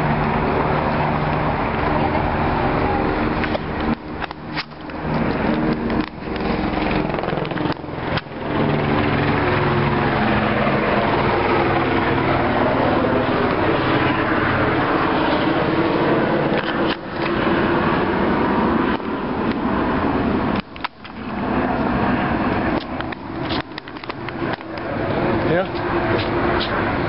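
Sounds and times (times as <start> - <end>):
helicopter flying overhead: 0.0 - 27.0.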